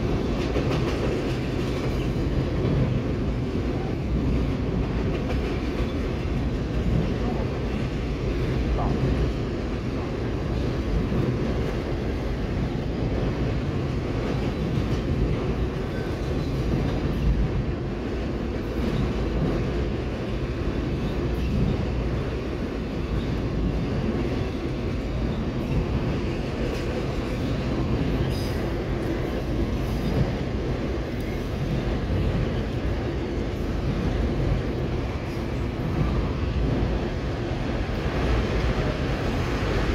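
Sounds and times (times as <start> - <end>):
freight train rolling on rails: 0.0 - 39.9.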